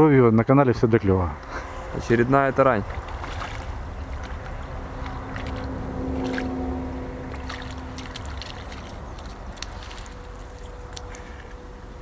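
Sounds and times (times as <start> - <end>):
engine hum: 0.7 - 12.0.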